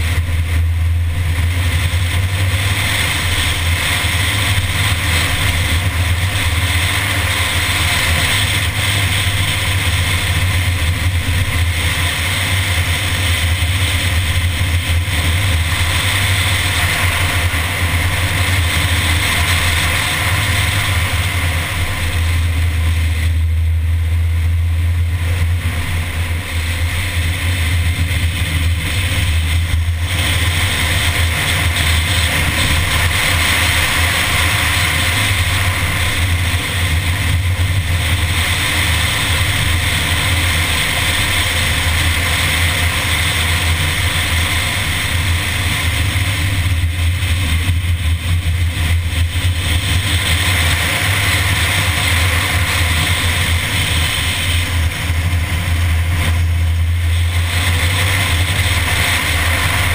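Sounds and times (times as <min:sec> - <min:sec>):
car engine at speed: 0:00.0 - 0:59.9
wind noise on camera: 0:00.0 - 0:59.9.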